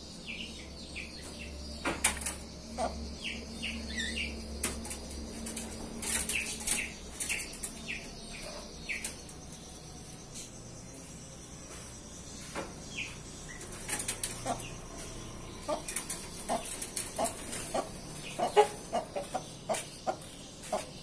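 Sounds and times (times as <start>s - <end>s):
caged birds chattering: 0.0s - 21.0s.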